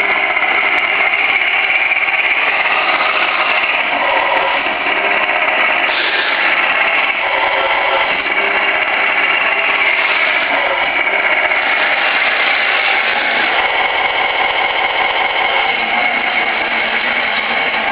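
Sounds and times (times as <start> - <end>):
simulated tank engine through speaker: 0.0 - 17.9.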